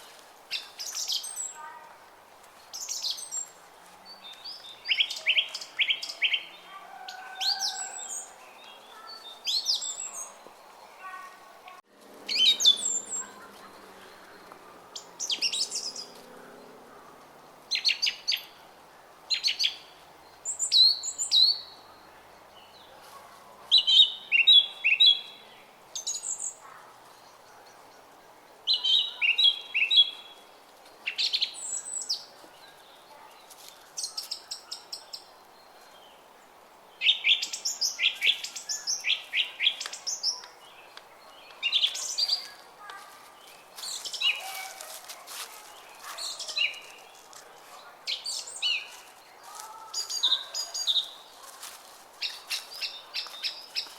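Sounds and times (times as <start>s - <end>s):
songbirds chirping: 0.0s - 53.9s.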